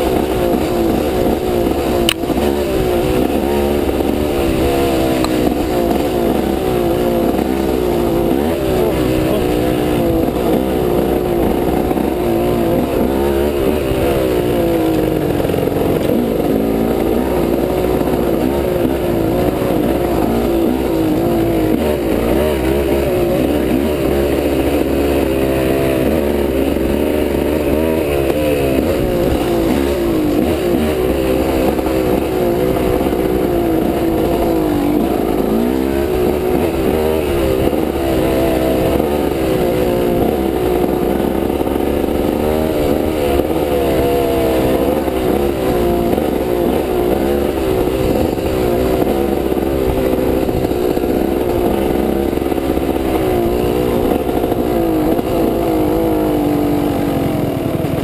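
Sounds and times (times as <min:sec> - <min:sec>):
off-road motorcycle engine: 0:00.0 - 0:58.0.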